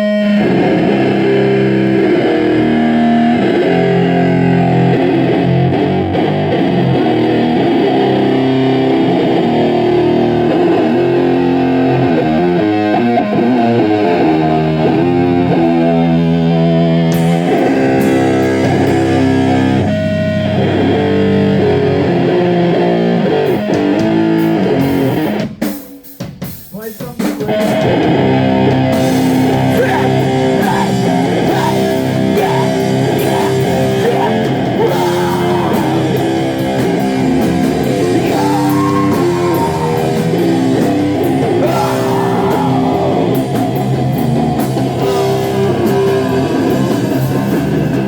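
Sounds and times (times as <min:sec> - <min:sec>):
distorted electric guitar riff: 0:00.0 - 0:25.7, 0:27.1 - 0:48.0.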